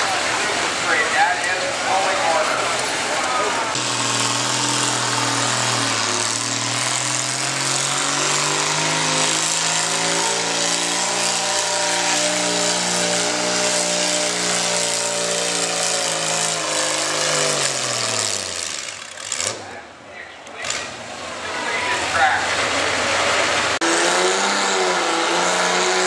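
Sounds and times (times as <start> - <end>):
tractor engine revving under load: 0.0 - 19.8, 20.4 - 26.0.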